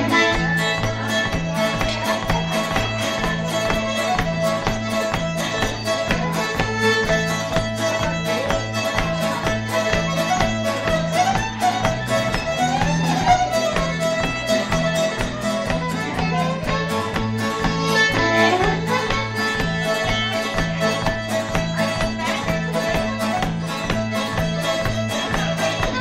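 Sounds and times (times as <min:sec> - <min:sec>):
acoustic guitar strumming: 0:00.0 - 0:26.0
fiddle playing lively tune: 0:00.0 - 0:26.0.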